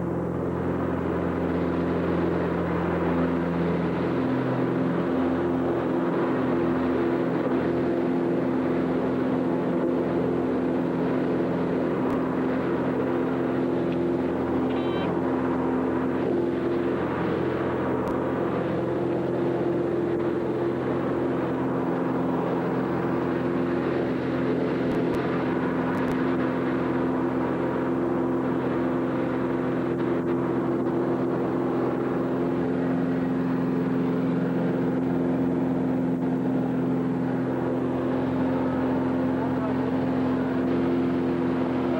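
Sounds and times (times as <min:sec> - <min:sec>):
vehicle engine droning: 0:00.0 - 0:41.9.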